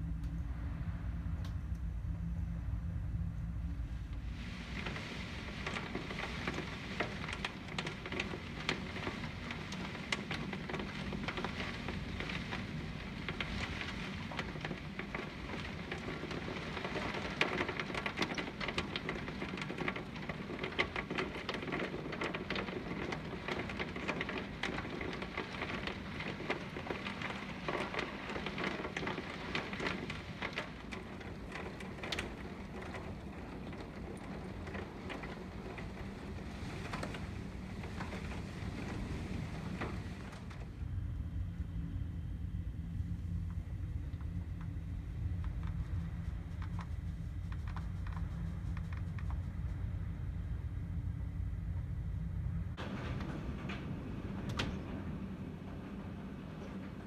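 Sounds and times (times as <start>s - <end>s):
continuous rushing noise: 0.0s - 57.0s
rain pelting a window: 2.3s - 57.0s.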